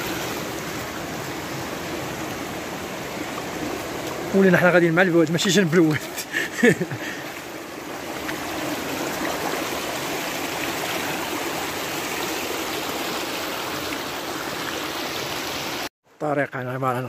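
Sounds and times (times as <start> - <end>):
stream flowing over rocks: 0.0 - 15.9.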